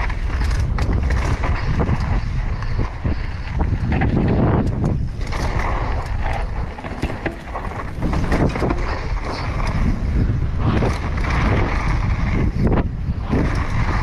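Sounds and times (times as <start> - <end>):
bike rattling over bumps: 0.0 - 14.0
tyres rumbling on trail: 0.0 - 14.0
wind buffeting microphone: 0.0 - 14.0.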